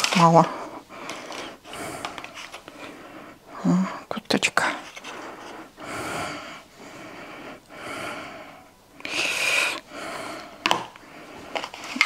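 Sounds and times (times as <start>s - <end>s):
woman breathing noisily: 0.4s - 4.1s, 4.8s - 12.0s.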